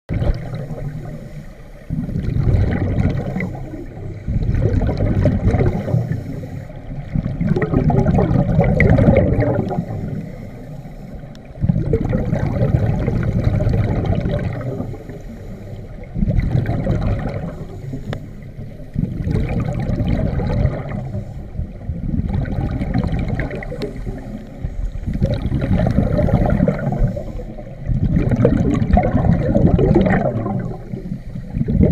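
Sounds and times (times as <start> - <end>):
underwater exhaust bubbles gurgling: 0.1 - 31.9.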